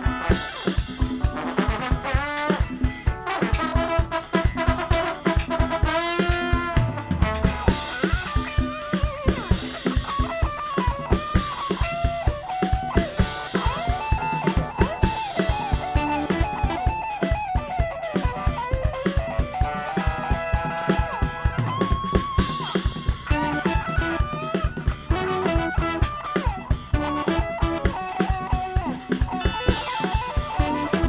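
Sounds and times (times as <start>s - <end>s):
bass guitar: 0.0s - 31.0s
drum kit steady beat: 0.0s - 31.0s
electric guitar: 0.0s - 31.0s.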